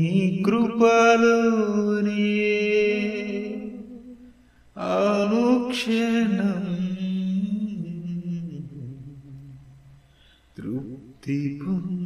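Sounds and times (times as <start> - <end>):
person singing a chant: 0.0 - 4.2, 4.8 - 9.6, 10.6 - 12.0.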